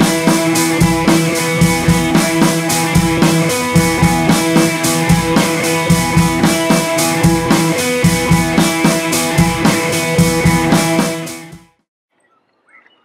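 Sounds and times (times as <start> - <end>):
steady drum beat: 0.0 - 11.8.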